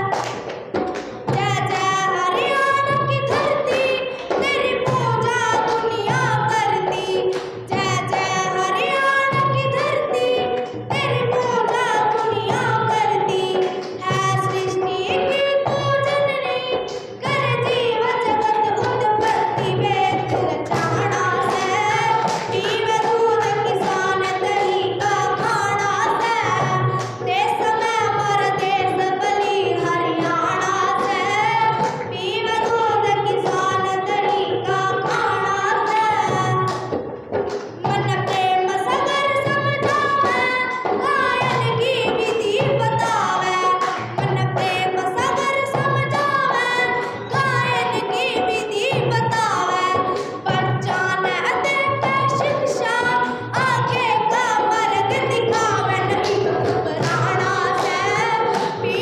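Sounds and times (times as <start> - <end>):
girl singing into a microphone: 0.0 - 0.3, 1.3 - 36.9, 37.8 - 59.0.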